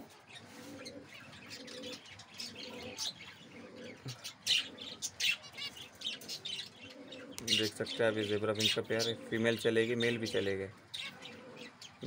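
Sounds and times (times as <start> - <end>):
finches chirping: 0.3 - 12.0.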